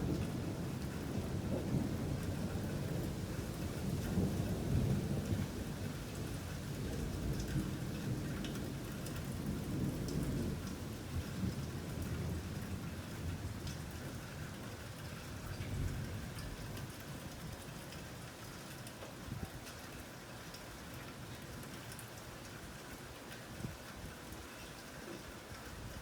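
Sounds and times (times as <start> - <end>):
steady rain: 0.0 - 26.0
sharp raindrop ticks: 0.1 - 26.0.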